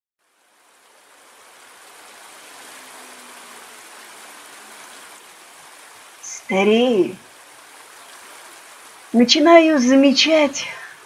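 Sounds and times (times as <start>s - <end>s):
water rushing over a weir: 0.2s - 11.0s.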